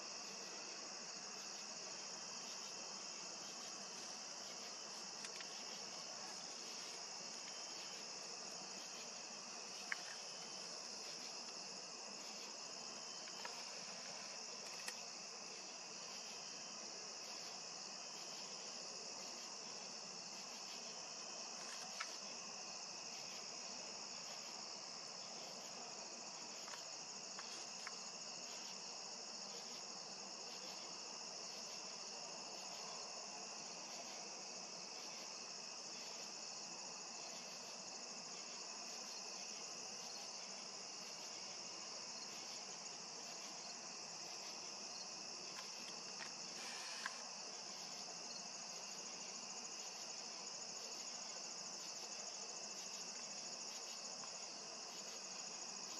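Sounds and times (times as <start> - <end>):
field insects trilling: 0.0 - 55.9.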